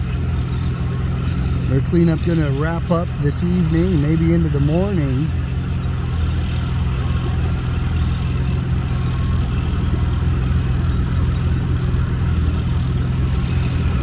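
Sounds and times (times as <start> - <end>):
heavy engine running steadily: 0.0 - 14.0.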